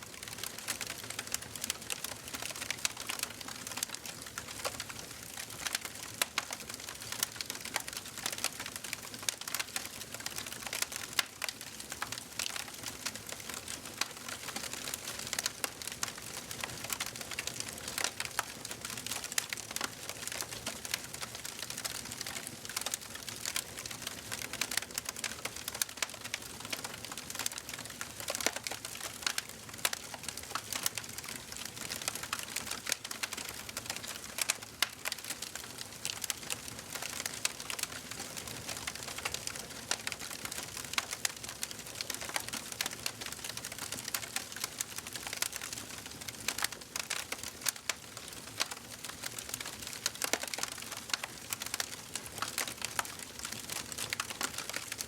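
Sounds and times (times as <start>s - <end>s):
soft hiss of burning: 0.0s - 55.0s
wood fire crackling and popping: 0.0s - 55.0s.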